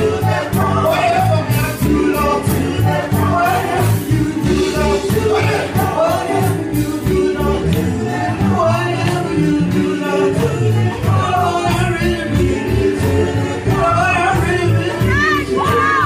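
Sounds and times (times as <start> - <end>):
gospel singing with band: 0.0 - 16.0
steady drum beat: 0.0 - 16.0.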